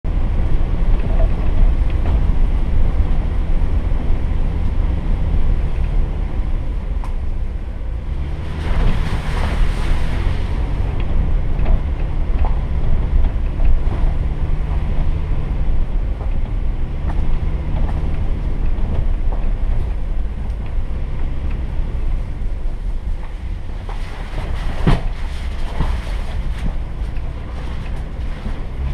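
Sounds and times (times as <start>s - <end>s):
low engine and drivetrain rumble: 0.0s - 28.9s.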